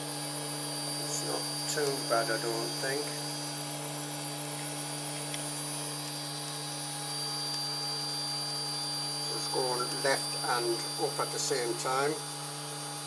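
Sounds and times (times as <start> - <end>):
printer electrical hum: 0.0 - 13.0.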